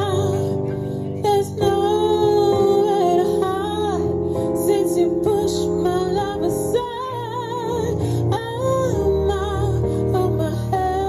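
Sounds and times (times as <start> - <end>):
keyboard accompaniment: 0.0 - 11.0
woman singing into microphone: 0.0 - 11.0.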